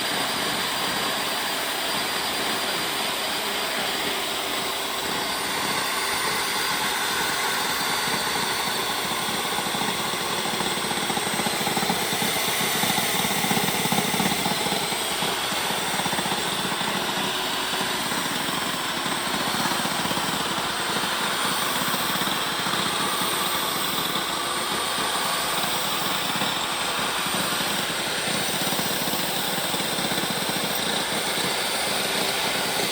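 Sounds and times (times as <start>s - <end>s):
table saw cutting plastic trim: 0.0s - 32.9s.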